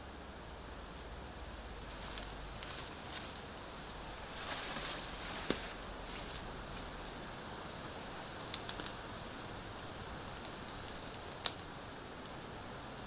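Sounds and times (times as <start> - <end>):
rain falling: 1.1 - 13.0.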